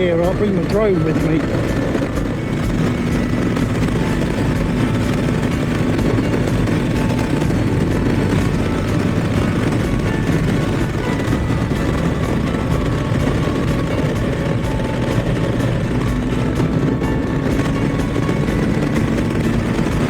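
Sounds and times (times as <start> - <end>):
motorcycle engine running: 0.0 - 20.0
road noise: 0.0 - 20.0
wind noise: 0.0 - 20.0.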